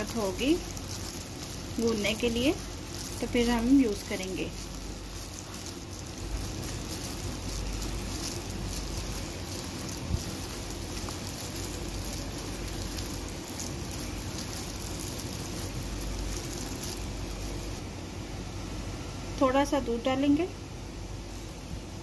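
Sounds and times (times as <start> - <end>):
plastic bag crackling with dough: 0.0 - 17.8, 21.2 - 22.0.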